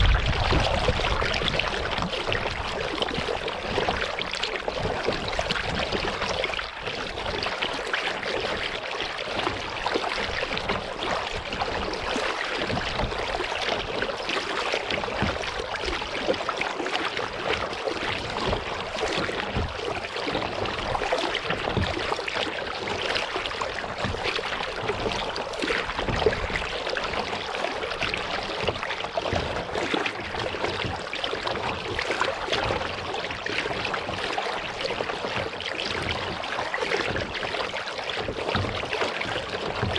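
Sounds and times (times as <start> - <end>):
paddle drips: 0.0 - 39.9
water lapping at a hull: 0.0 - 39.9
water splashing around a kayak: 0.0 - 39.9.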